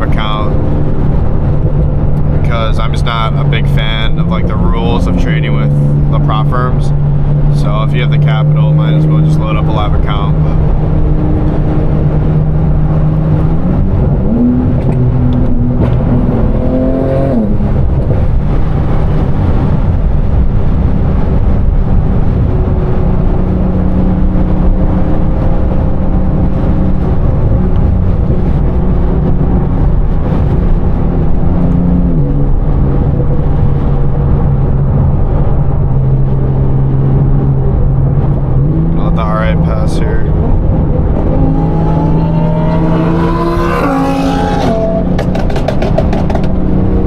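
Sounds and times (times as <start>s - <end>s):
car engine from inside cabin: 0.0s - 47.0s
road noise: 0.0s - 47.0s.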